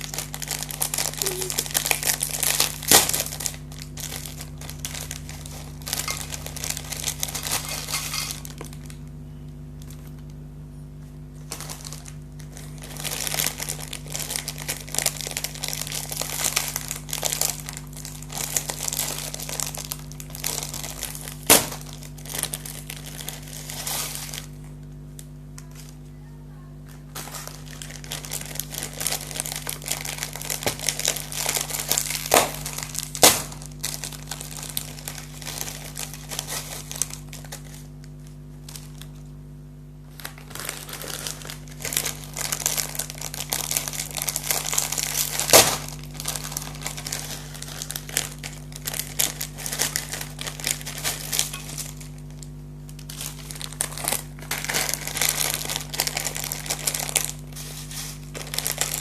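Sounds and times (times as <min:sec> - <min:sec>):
foil packets crinkling: 0:00.0 - 0:39.4, 0:40.0 - 0:59.0
steady low hum: 0:00.0 - 0:59.0.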